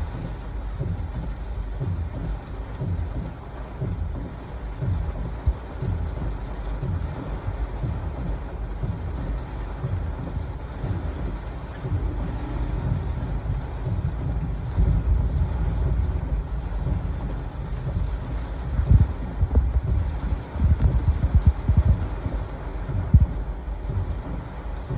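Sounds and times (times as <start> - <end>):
heavy rain falling: 0.0 - 24.9
wind buffeting microphone: 0.0 - 24.9.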